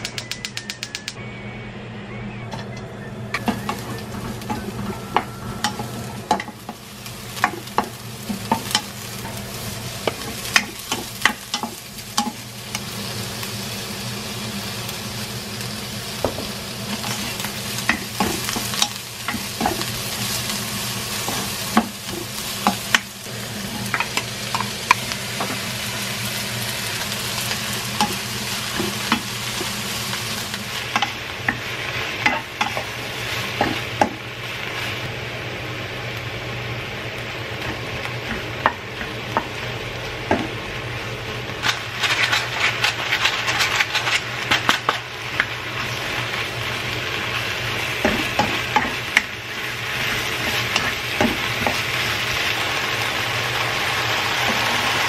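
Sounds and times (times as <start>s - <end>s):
oil sizzling in a wok: 3.3s - 55.0s.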